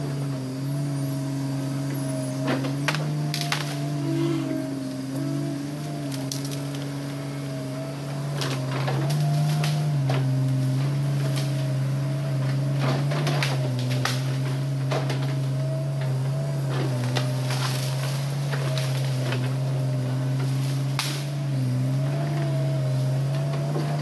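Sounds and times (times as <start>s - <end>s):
excavator diesel engine running: 0.0s - 24.0s
branches cracking and snapping: 2.4s - 4.0s, 5.3s - 7.3s, 8.2s - 24.0s.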